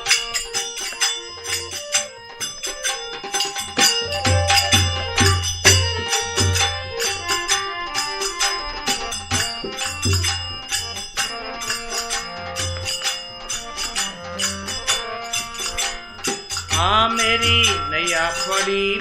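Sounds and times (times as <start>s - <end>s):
rhythmic percussion: 0.0s - 19.0s
sustained melodic line: 0.4s - 19.0s.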